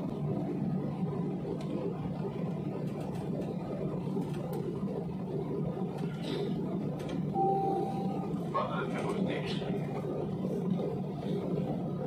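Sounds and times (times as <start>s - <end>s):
jet engines and cabin ventilation: 0.0s - 12.0s.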